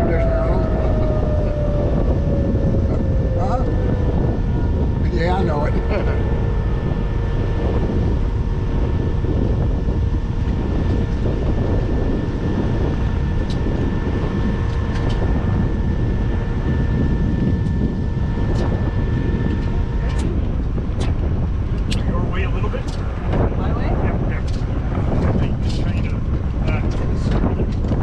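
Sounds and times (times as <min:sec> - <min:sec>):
jet engine running: 0:00.0 - 0:28.0.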